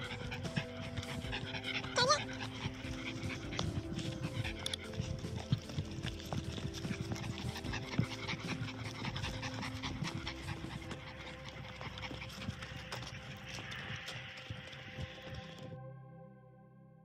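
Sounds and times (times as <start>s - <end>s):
footsteps on dry dirt and grass: 0.0s - 15.6s
dog panting: 0.0s - 15.7s.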